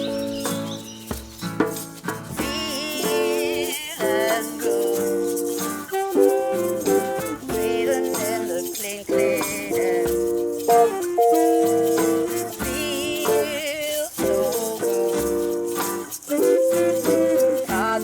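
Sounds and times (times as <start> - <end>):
music with sliding notes: 0.0 - 18.0.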